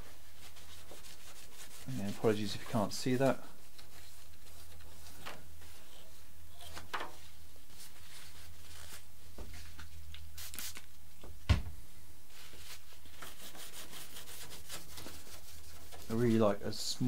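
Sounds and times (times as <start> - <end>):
tissue rubbing: 0.0 - 10.8, 12.3 - 16.4.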